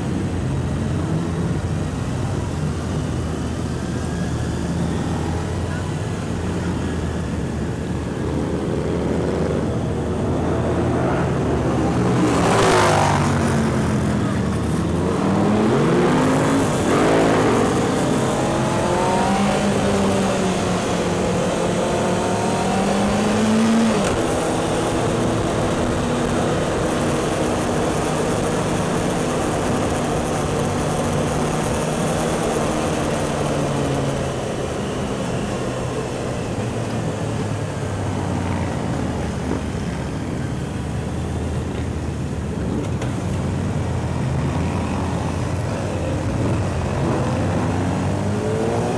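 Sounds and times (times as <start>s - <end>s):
motorcycle engines revving: 0.0s - 48.9s.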